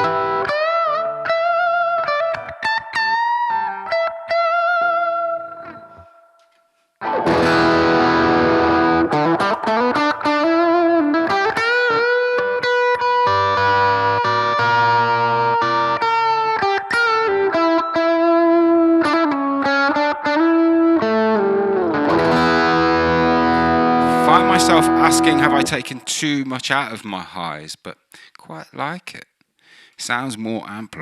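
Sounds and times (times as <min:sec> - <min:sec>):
electric guitar lead melody: 0:00.0 - 0:06.1, 0:07.0 - 0:26.2.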